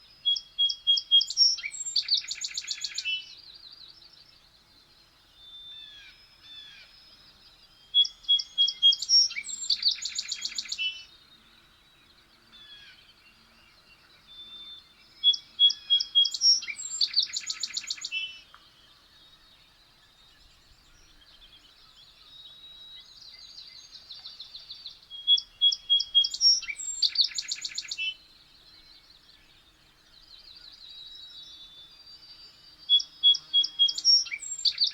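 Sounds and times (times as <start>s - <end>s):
soft bird chirps: 0.0s - 34.9s
songbird singing with trill: 0.0s - 34.9s.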